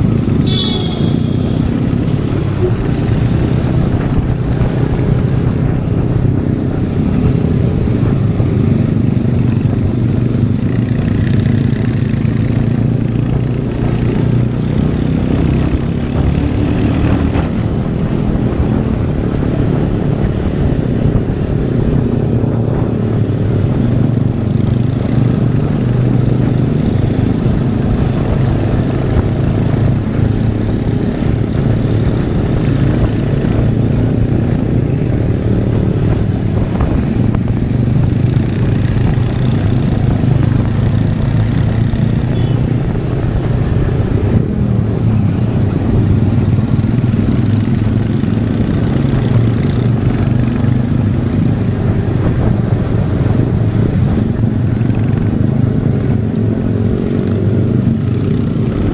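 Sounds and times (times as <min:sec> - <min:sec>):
motorcycle engine and exhaust running: 0:00.0 - 0:58.9.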